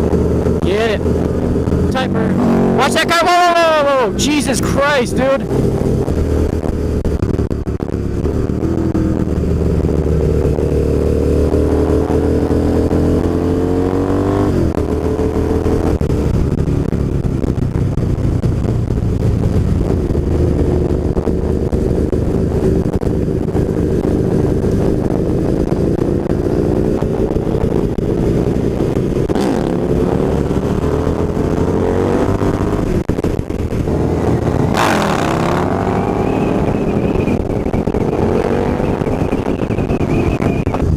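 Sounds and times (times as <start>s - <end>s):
wind rush on microphone: 0.0s - 2.9s, 3.7s - 40.9s
motorcycle engine revving: 0.0s - 40.9s.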